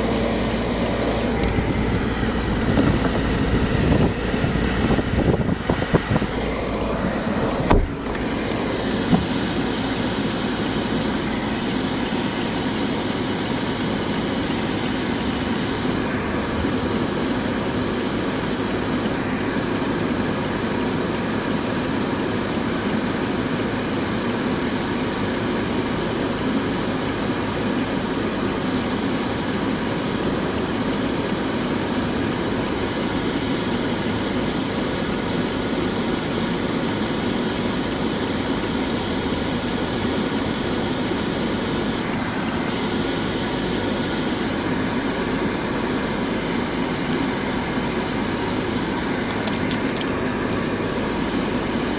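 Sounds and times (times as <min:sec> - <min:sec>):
machine running noise: 0:00.0 - 0:21.1, 0:31.2 - 0:51.9.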